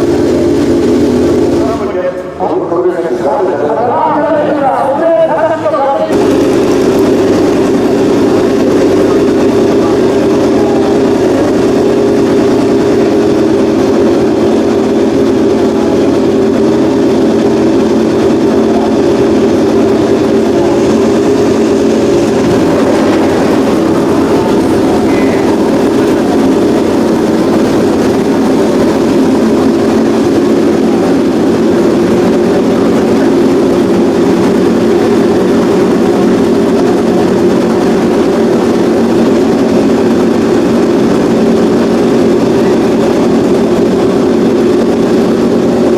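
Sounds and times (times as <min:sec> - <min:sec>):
motorbike engine running steadily: 0:00.0 - 0:02.3, 0:06.1 - 0:45.9.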